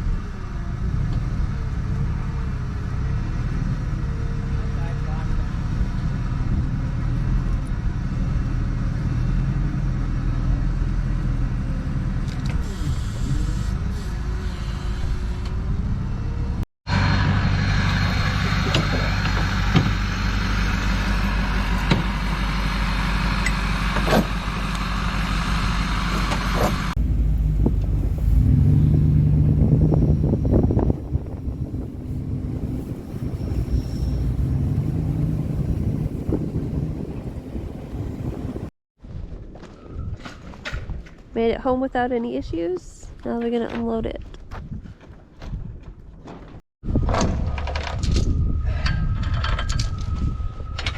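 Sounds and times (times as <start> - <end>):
truck engine and road rumble: 0.0 - 50.9.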